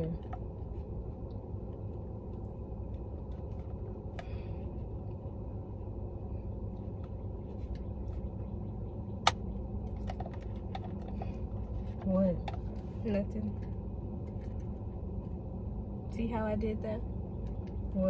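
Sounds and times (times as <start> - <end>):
low rumble inside car cabin: 0.0 - 18.0.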